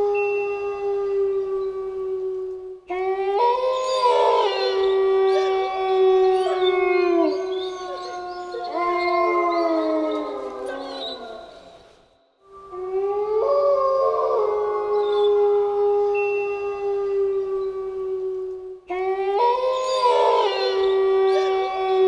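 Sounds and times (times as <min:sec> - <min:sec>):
wolves howling: 0:00.0 - 0:22.0.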